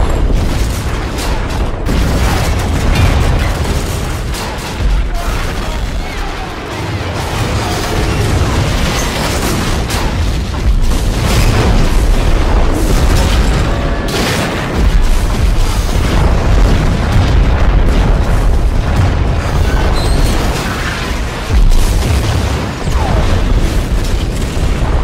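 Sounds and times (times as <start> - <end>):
explosions booming: 0.0 - 25.0.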